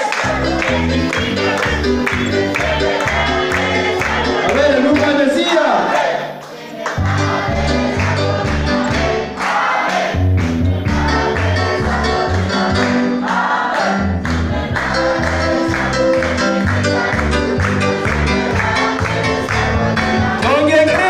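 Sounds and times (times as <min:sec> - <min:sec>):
gospel backing music: 0:00.0 - 0:21.0
group of voices singing: 0:00.0 - 0:21.0.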